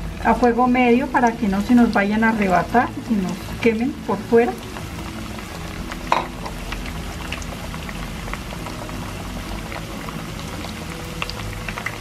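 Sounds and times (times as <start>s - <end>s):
plantain deep-frying in hot oil: 0.0s - 12.0s.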